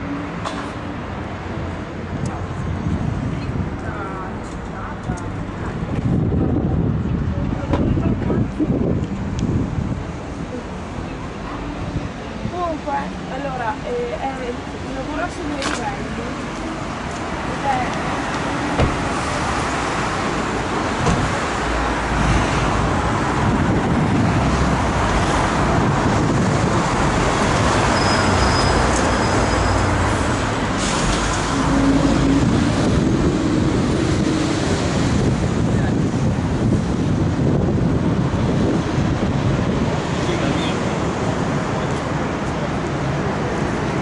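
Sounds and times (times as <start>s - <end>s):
traffic driving past: 0.0s - 44.0s.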